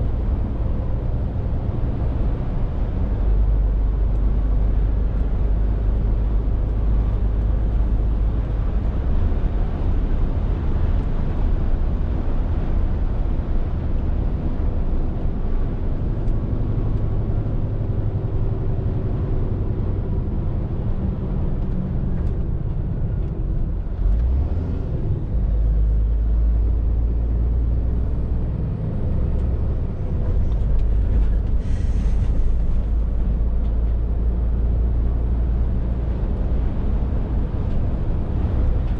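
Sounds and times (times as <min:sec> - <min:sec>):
lorry diesel engine droning: 0:00.0 - 0:38.9
road noise: 0:00.0 - 0:38.9.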